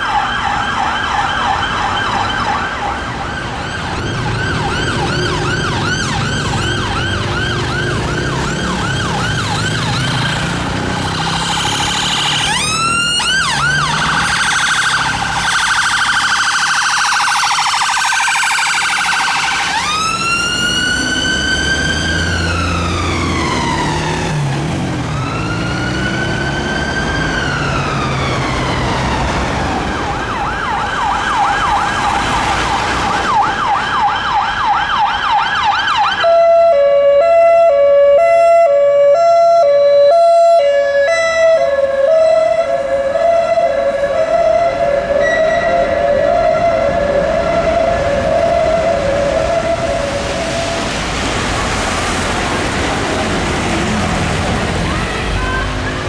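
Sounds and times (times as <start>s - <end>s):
ambulance siren warbling and wailing: 0.0s - 56.0s
police siren yelping: 0.0s - 56.0s
traffic rumble: 0.0s - 56.0s.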